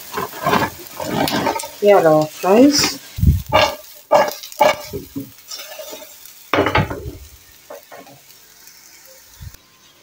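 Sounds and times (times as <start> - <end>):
fries scraping and clattering in pan: 0.0 - 9.3.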